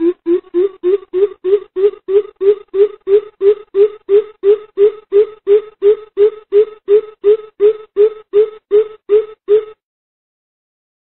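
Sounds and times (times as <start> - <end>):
bird calling in deep hoots: 0.0 - 9.8.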